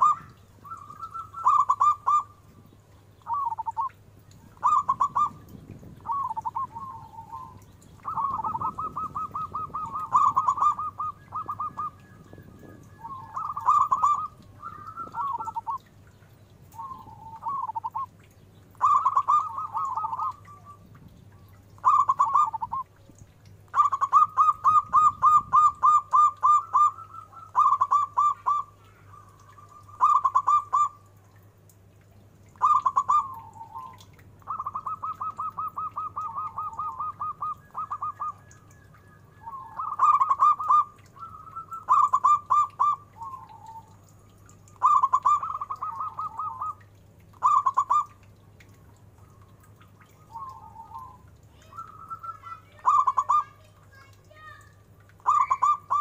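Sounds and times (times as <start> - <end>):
dove cooing: 0.0 - 3.9, 4.5 - 31.4, 32.5 - 48.4, 49.2 - 54.1, 55.2 - 56.0.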